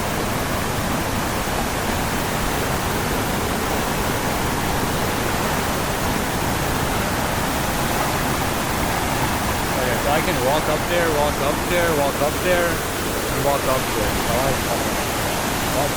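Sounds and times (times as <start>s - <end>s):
waterfall crashing onto rocks: 0.0s - 15.9s.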